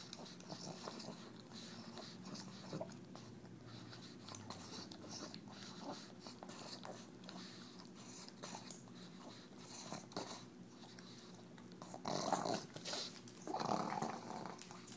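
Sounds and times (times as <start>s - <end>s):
dog snorting: 0.0s - 14.9s.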